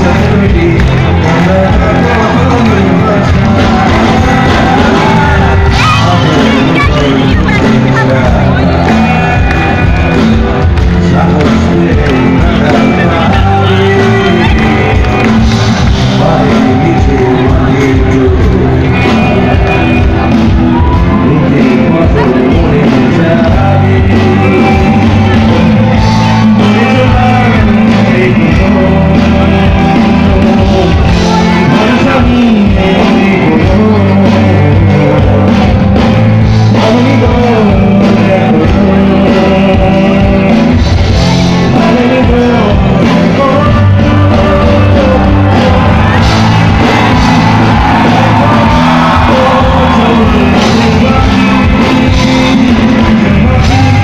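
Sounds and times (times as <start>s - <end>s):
crowd shouting: 0.0s - 33.8s, 44.2s - 54.0s
live rock band playing: 0.0s - 54.0s
man singing: 0.0s - 54.0s.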